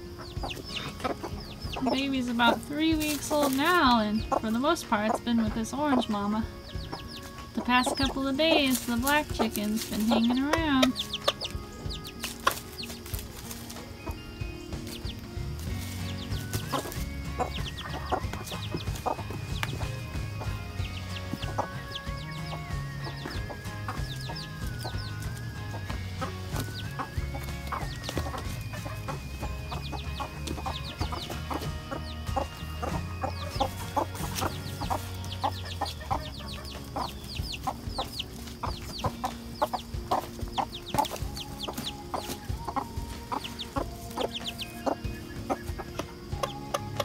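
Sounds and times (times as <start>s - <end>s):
chick peeping: 0.0s - 47.0s
hens clucking: 0.0s - 47.0s
soft background music: 0.0s - 47.0s.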